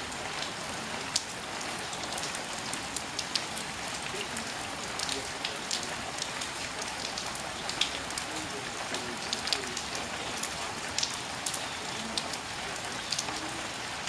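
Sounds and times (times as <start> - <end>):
rain falling on puddle: 0.0 - 14.0.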